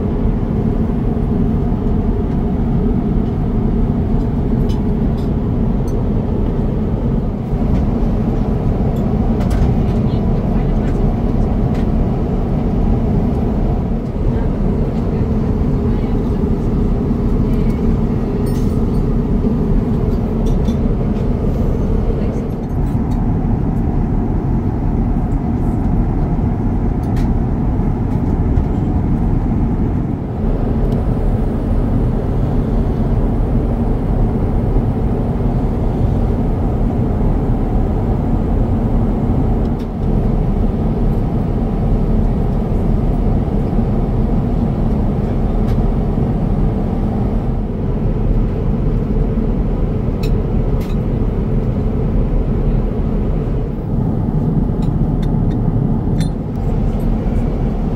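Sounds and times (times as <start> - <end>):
aircraft cabin engine rumble: 0.0 - 57.9.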